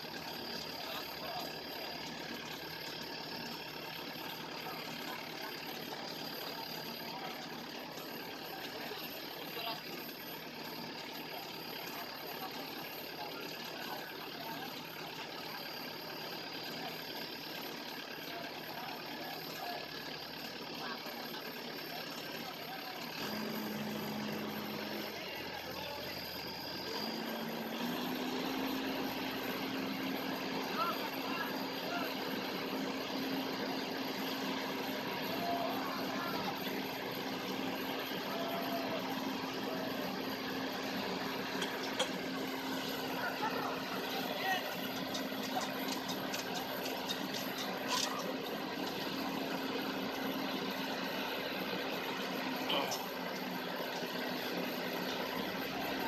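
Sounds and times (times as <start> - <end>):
harvester engine idling: 0.0 - 56.0.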